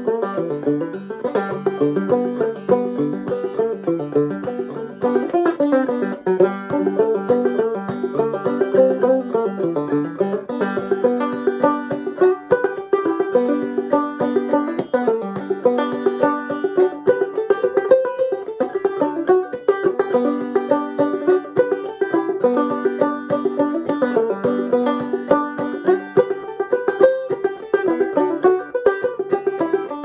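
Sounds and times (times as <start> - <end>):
banjo picking: 0.0 - 30.0.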